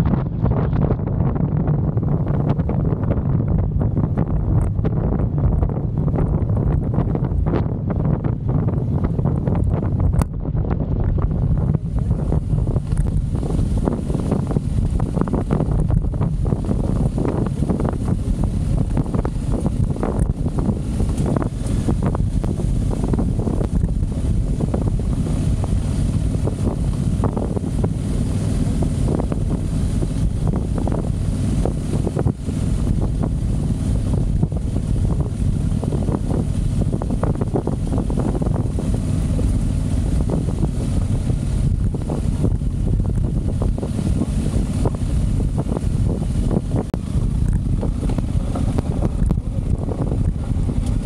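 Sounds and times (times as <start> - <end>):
motorcycle engine running: 0.0 - 51.0
wind buffeting microphone: 0.0 - 51.0.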